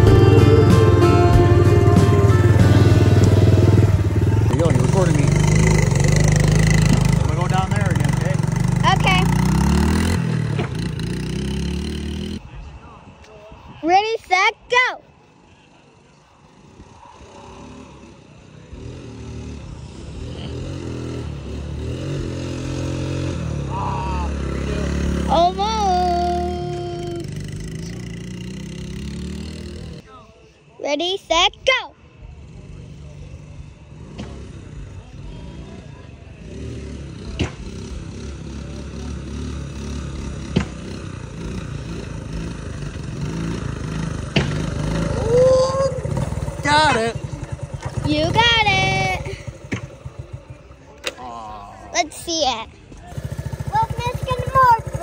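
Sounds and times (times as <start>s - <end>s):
small four-stroke engine running: 0.0s - 12.4s, 16.0s - 30.0s, 32.4s - 55.0s.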